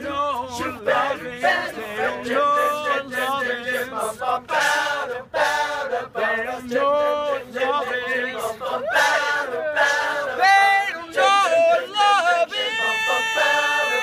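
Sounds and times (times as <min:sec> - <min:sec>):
male a cappella group singing: 0:00.0 - 0:14.0.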